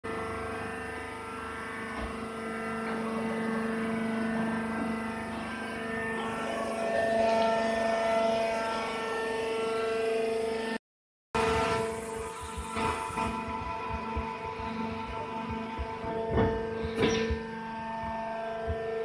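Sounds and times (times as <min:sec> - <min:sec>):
baler machine humming: 0:00.1 - 0:10.7, 0:11.4 - 0:19.0.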